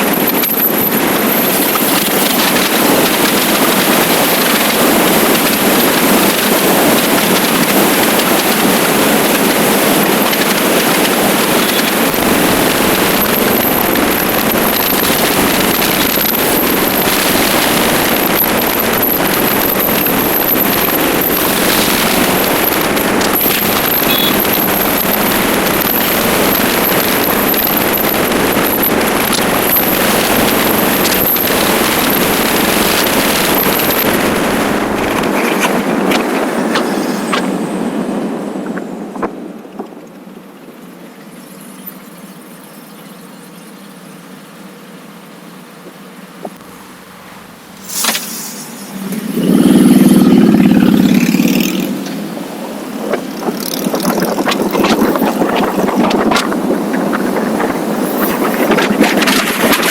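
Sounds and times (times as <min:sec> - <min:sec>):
motorcycle engine running: 0:00.0 - 0:39.3, 0:39.9 - 0:59.9
wind and road noise: 0:00.0 - 0:59.9.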